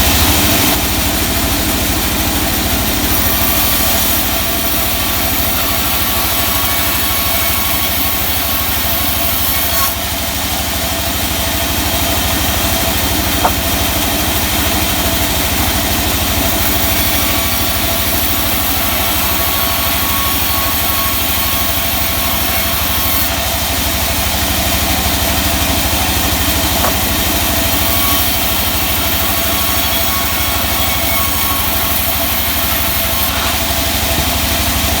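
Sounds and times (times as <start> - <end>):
sawmill machinery drone: 0.0 - 35.0.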